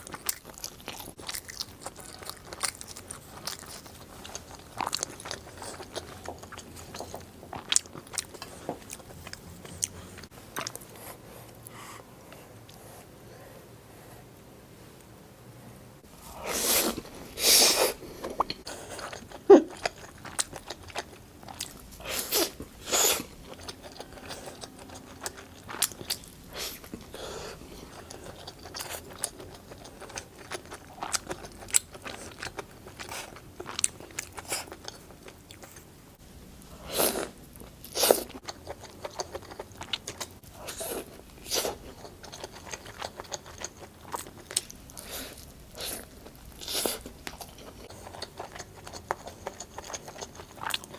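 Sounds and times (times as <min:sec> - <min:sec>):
person crunching and chewing: 0:00.0 - 0:11.0, 0:16.4 - 0:35.8, 0:37.0 - 0:50.9.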